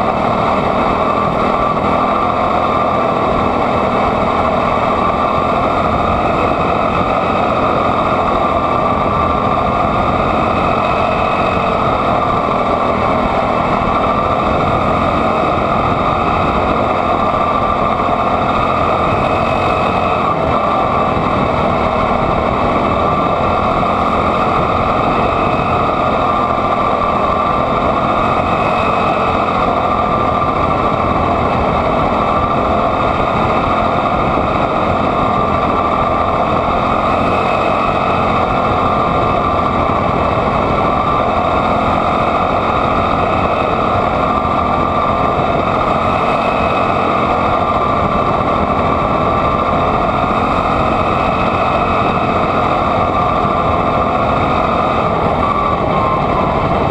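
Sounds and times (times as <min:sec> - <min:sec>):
small engine running hard: 0:00.0 - 0:56.9.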